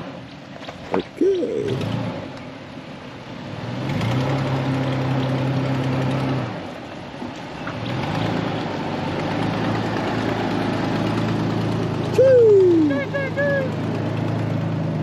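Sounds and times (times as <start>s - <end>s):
truck engine pulling through mud: 0.0s - 15.0s.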